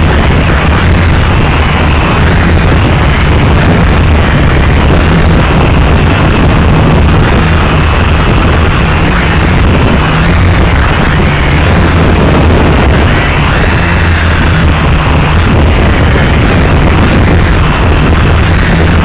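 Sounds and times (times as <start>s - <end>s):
drone motors buzzing: 0.0s - 19.0s.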